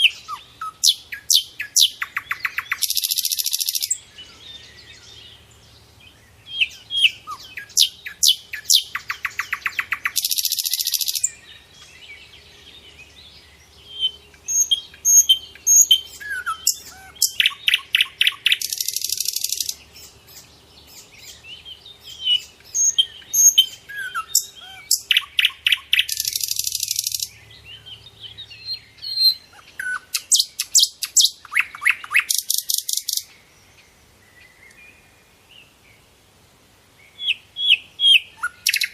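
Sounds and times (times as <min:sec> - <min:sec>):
soft bird chirps: 0:00.0 - 0:36.1, 0:36.9 - 0:38.9
songbird singing: 0:00.0 - 0:38.9.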